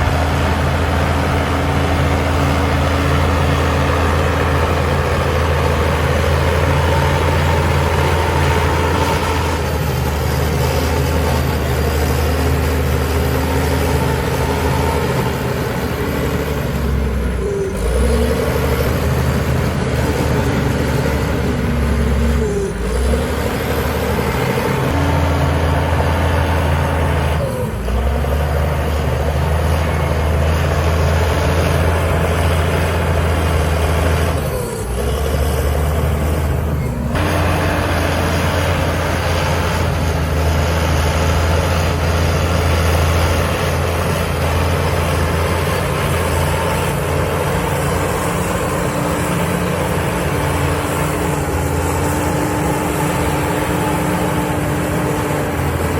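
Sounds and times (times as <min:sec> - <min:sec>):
heavy diesel engines droning: 0:00.0 - 0:55.9.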